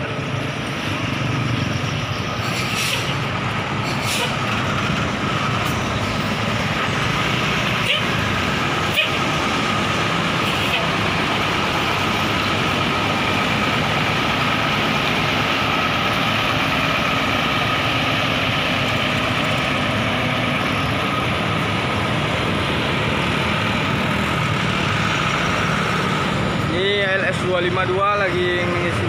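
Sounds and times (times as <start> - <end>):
diesel bus engine idling: 0.0 - 29.0.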